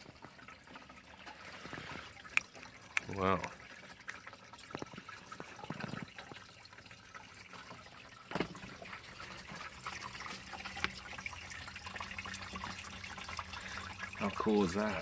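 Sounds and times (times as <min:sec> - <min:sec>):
water trickling into plastic bottle: 0:00.0 - 0:15.0.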